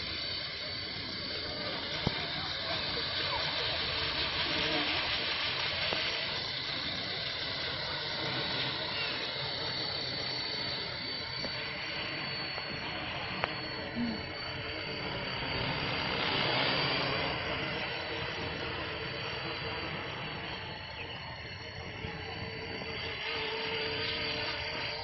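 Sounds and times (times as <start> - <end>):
model helicopter rotor whine: 0.0 - 25.0.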